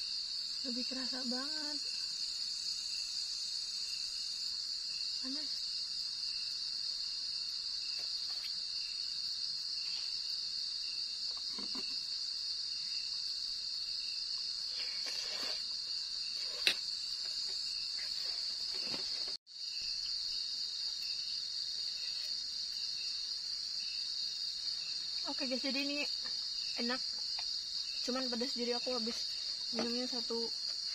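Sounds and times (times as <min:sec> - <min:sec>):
night insects chirping: 0:00.0 - 0:30.9.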